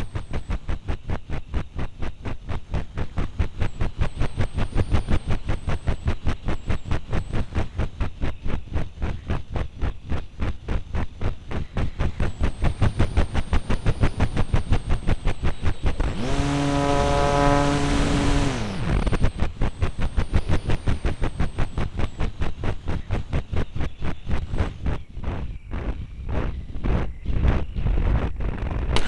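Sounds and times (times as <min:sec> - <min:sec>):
model plane motor pulsing: 0:00.0 - 0:23.6
motor whine: 0:00.0 - 0:25.9.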